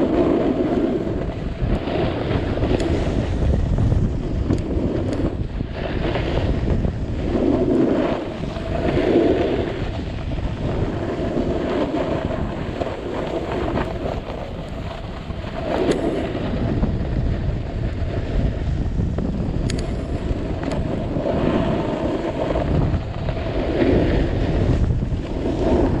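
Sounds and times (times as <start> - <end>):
skis scraping on snow: 0.0 - 26.0
wind buffeting microphone: 0.0 - 26.0.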